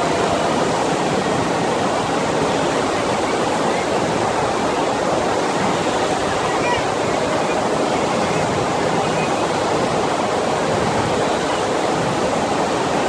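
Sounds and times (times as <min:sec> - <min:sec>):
water rushing over wave machine: 0:00.0 - 0:13.0.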